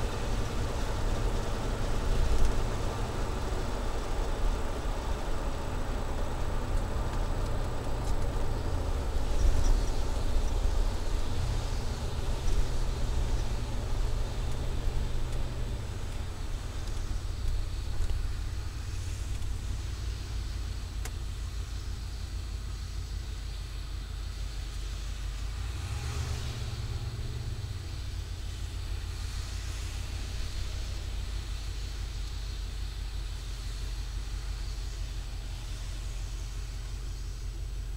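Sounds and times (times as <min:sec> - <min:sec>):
deep exhaust drone: 0:00.0 - 0:37.9.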